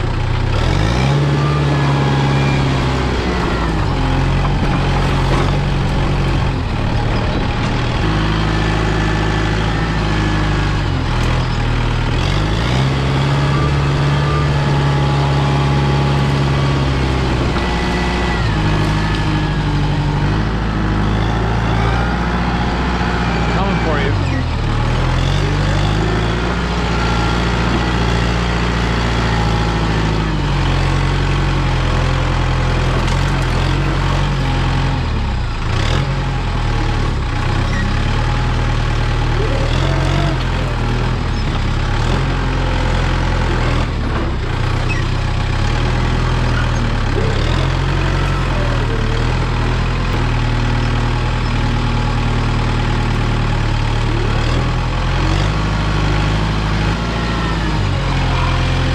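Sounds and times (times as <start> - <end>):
excavator engine under load: 0.0 - 58.9.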